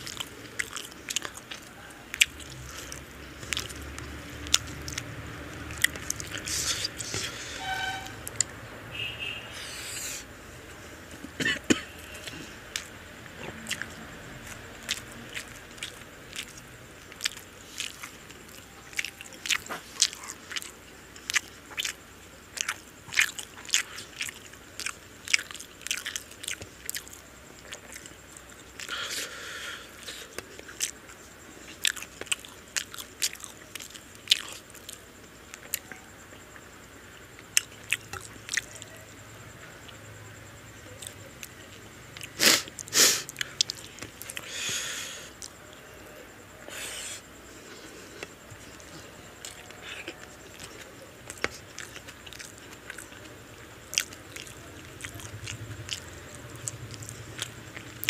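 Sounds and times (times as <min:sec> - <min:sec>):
wet chewing: 0:00.0 - 0:07.3, 0:11.6 - 0:29.3, 0:29.9 - 0:39.0, 0:40.9 - 0:45.9, 0:46.6 - 0:58.0.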